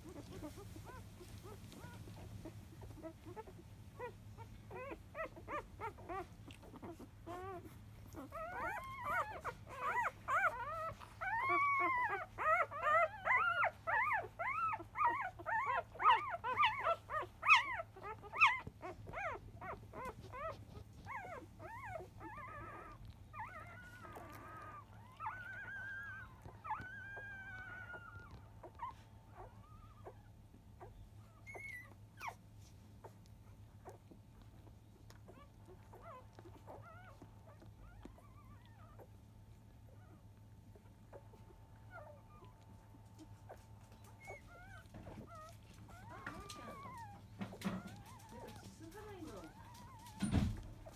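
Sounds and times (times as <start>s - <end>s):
puppies squeaking and whimpering: 0.0s - 50.9s.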